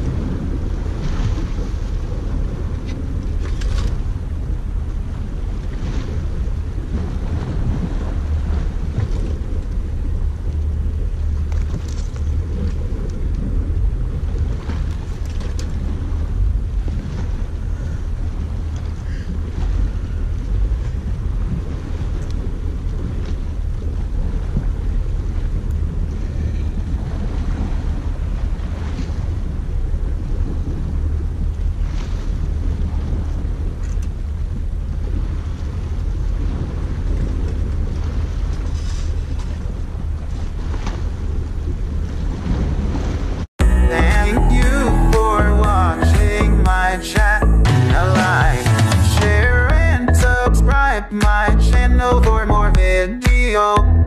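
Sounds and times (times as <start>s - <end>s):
wind buffeting microphone: 0.0s - 48.7s.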